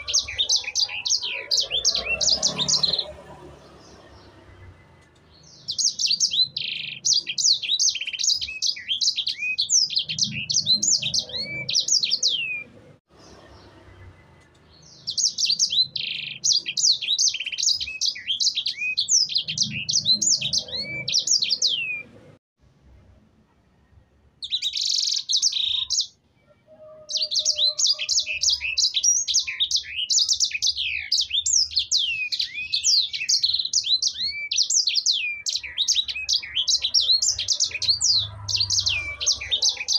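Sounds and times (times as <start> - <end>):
canary singing: 0.0 - 22.4, 24.4 - 39.9.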